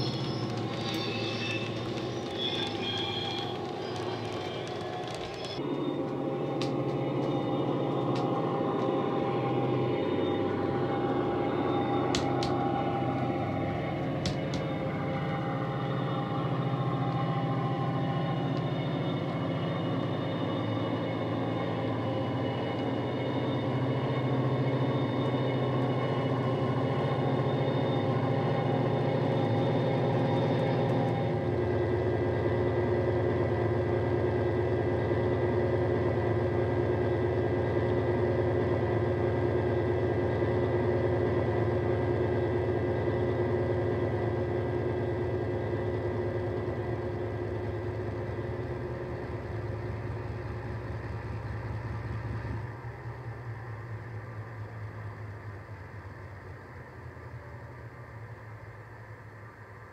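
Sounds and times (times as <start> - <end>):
deep diesel engine sound: 0.0 - 59.9.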